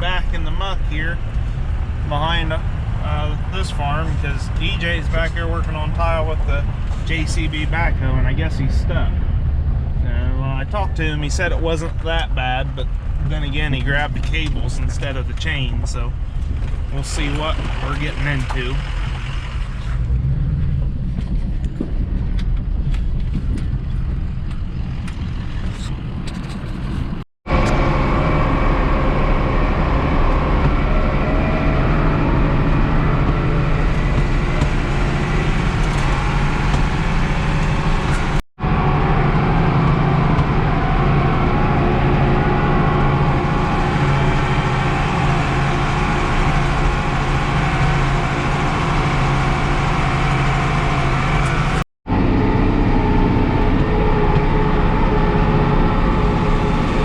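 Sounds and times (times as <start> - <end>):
tractor diesel engine running: 10.7 - 57.0.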